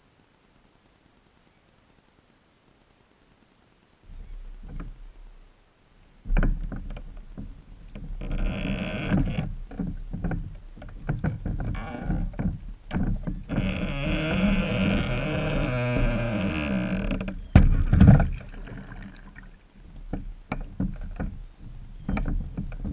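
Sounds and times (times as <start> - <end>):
paddle wheel splashing water: 4.2 - 22.9.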